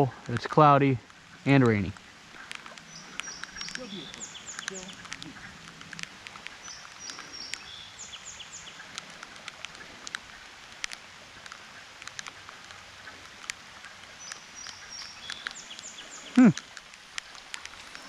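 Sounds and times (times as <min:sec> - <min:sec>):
light rain ticking: 0:00.0 - 0:18.0
steady outdoor hiss: 0:00.0 - 0:18.0.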